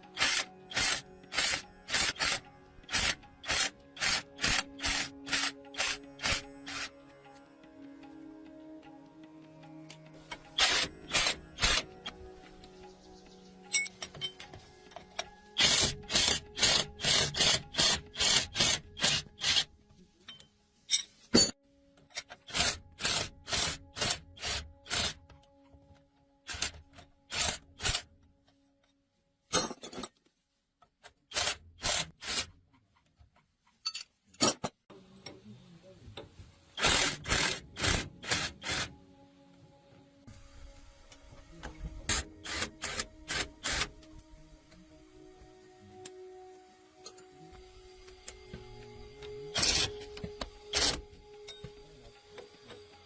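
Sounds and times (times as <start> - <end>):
faint background music: 0.0 - 53.0.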